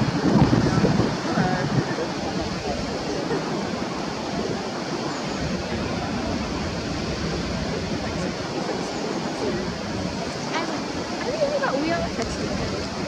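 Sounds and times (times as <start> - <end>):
steady outdoor rushing noise: 0.0 - 13.0.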